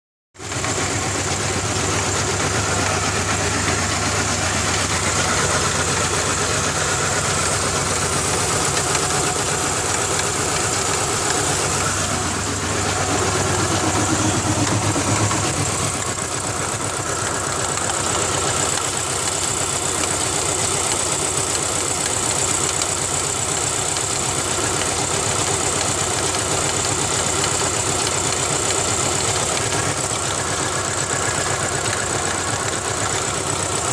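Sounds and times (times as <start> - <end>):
car engine idling roughly: 0.4 - 33.9.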